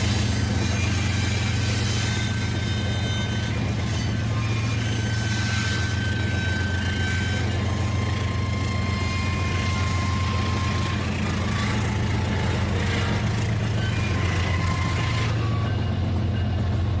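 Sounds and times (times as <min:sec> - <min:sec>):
toy train motor hum: 0:00.0 - 0:15.8.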